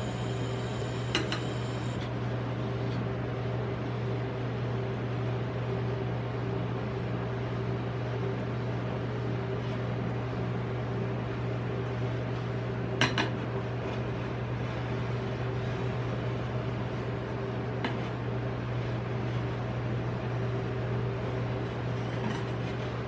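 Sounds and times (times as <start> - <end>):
machine hum with fan hiss: 0.0 - 23.0.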